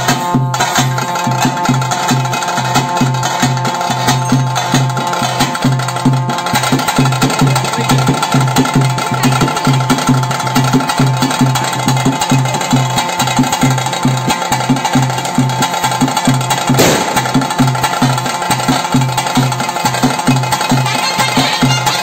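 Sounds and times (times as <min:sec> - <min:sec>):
ritual drums beating fast: 0:00.0 - 0:22.0.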